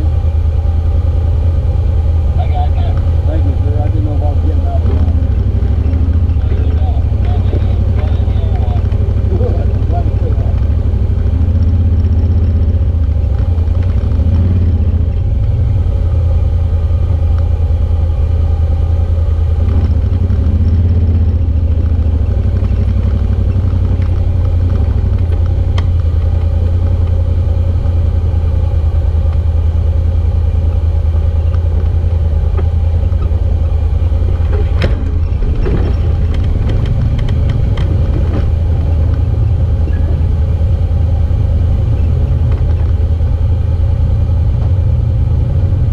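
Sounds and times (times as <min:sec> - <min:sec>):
utv engine running: 0:00.0 - 0:45.9.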